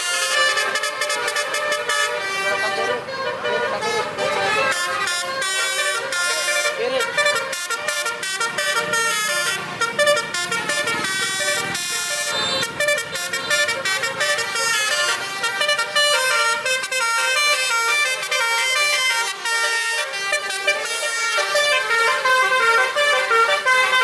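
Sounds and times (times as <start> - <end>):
truck musical horn playing tune: 0.0 - 24.0.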